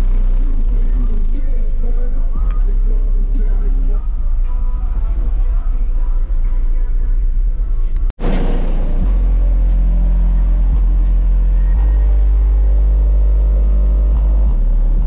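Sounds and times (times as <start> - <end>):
deep subwoofer bass note: 0.0 - 15.0.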